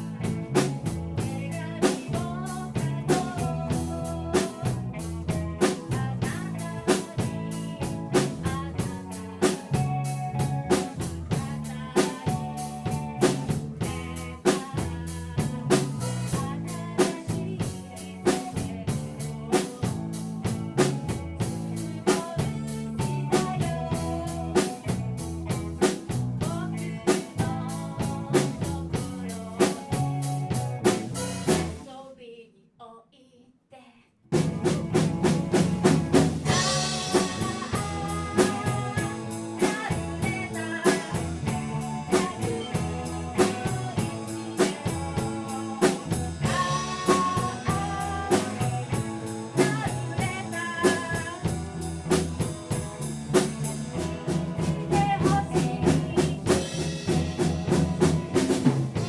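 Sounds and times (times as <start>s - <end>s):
live rock band playing: 0.0s - 31.9s, 34.3s - 59.0s.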